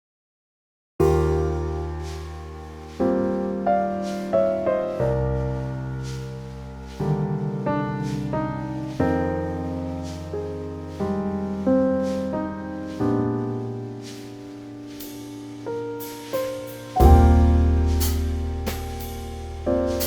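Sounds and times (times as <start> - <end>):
slow calm piano music: 1.0 - 20.0.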